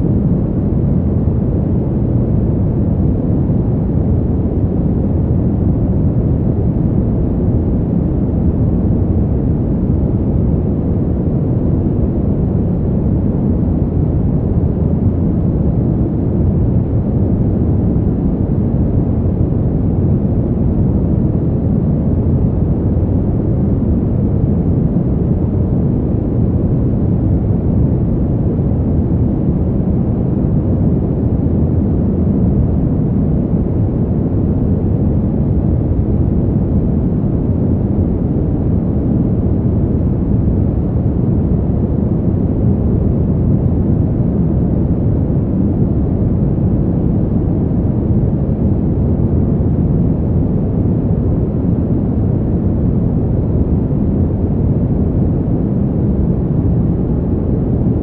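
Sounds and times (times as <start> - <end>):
steady wind rush: 0.0 - 58.0.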